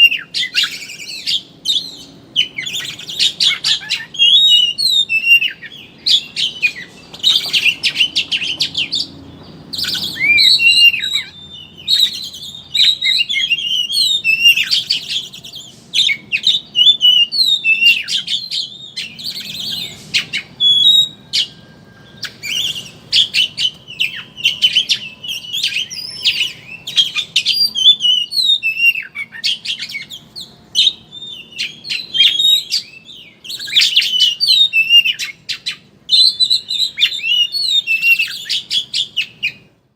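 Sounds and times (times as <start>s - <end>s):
bird twittering song: 0.0s - 39.7s.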